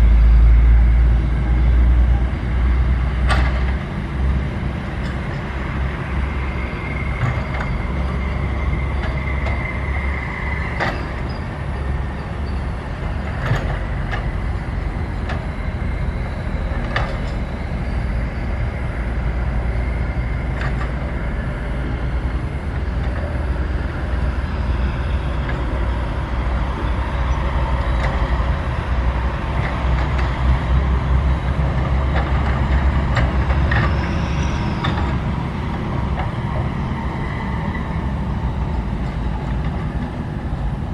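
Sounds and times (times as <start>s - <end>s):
excavator diesel engine rumbling: 0.0s - 40.9s.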